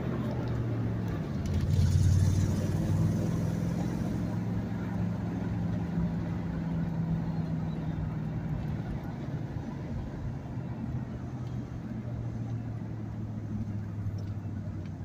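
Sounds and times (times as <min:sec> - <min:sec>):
truck engine drone: 0:00.0 - 0:15.0
tyre and road noise: 0:00.0 - 0:15.0.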